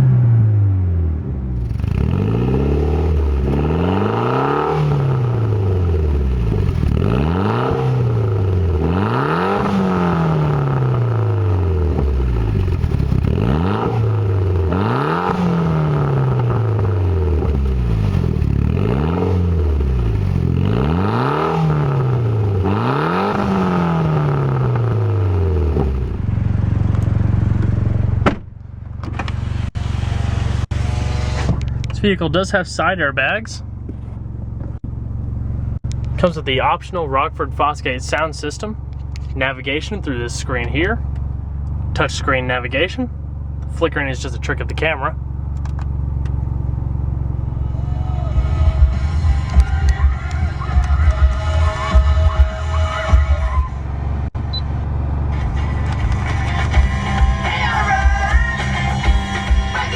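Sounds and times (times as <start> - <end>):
car engine revving: 0.0 - 59.9
turbo whine: 1.6 - 38.7, 39.7 - 59.9.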